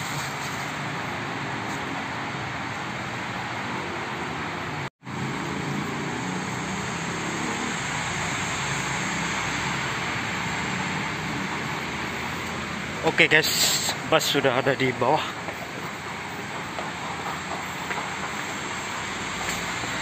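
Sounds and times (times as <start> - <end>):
train station rumble: 0.0 - 20.0.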